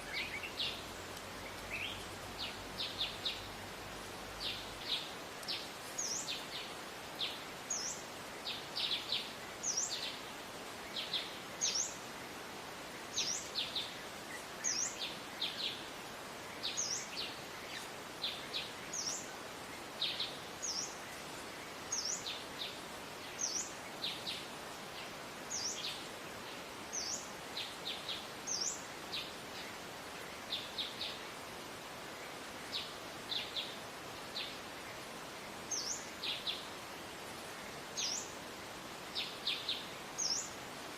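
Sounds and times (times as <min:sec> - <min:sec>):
songbird high chirps: 0:00.0 - 0:31.5, 0:32.1 - 0:40.6
steady background hiss: 0:00.0 - 0:40.9.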